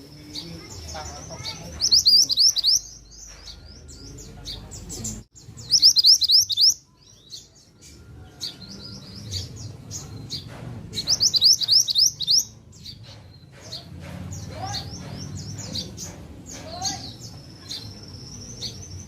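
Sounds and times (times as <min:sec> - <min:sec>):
bird singing high chirps: 0:00.0 - 0:19.0.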